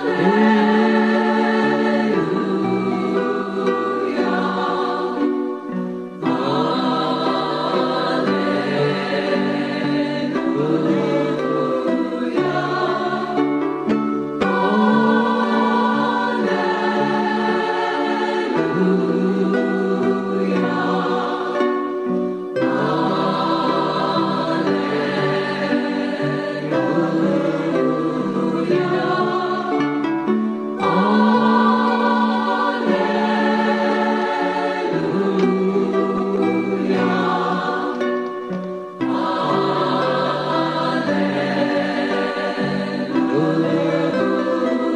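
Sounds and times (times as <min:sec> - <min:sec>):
choir singing in harmony: 0:00.0 - 0:44.9.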